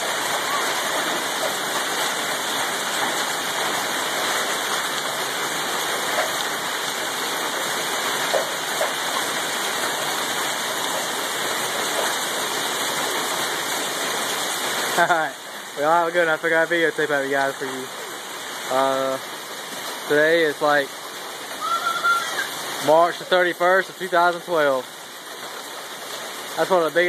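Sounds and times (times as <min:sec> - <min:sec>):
hailstones pelting the ground: 0:00.0 - 0:27.0.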